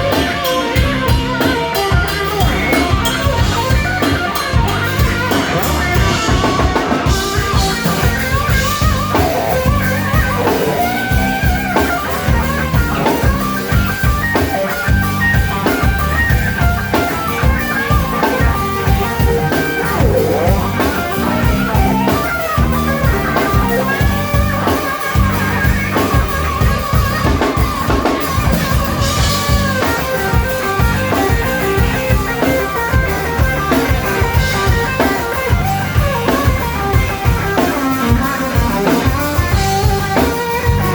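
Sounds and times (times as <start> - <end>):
bass guitar: 0.0 - 40.9
drum kit: 0.0 - 40.9
lead guitar melodic lines: 0.0 - 40.9.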